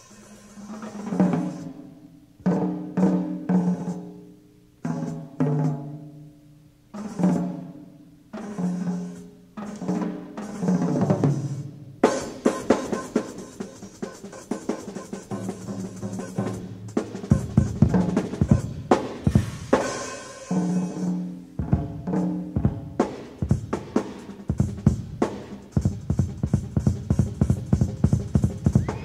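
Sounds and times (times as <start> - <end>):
drum kit solo: 0.0 - 29.0.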